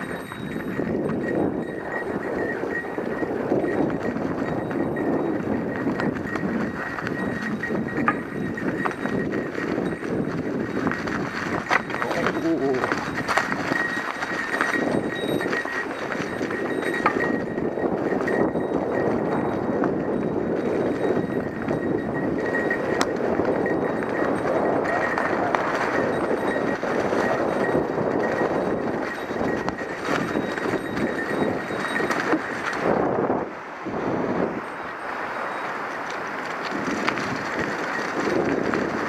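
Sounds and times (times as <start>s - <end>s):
bike knocking and rattling: 0.0s - 33.3s, 34.7s - 39.0s
bike tyres rolling on trail: 0.0s - 39.0s.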